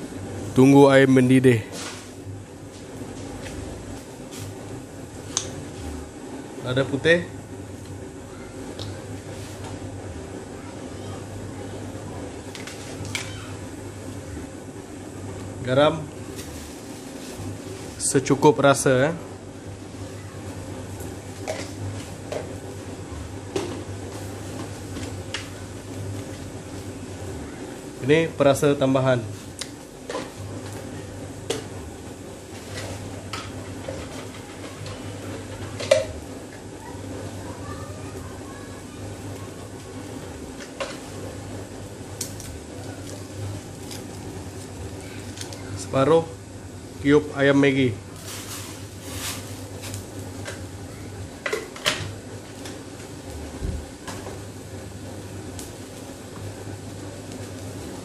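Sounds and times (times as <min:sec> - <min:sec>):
low burner hum: 0:00.0 - 0:58.0
water heating in a wok: 0:00.0 - 0:58.0.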